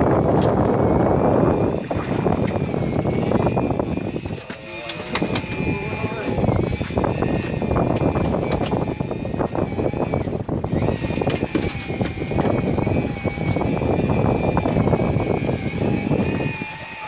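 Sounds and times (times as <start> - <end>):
boat engine whining: 0.0 - 17.0
wind and water noise: 0.0 - 17.0.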